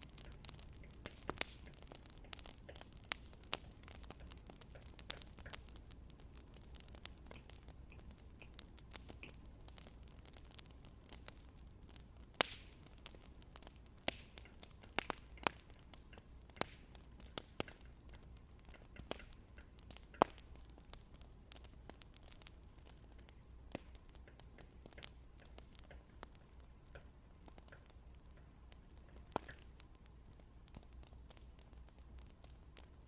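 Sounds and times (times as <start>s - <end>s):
burning logs popping: 0.0s - 33.0s
fire hiss: 0.0s - 33.0s.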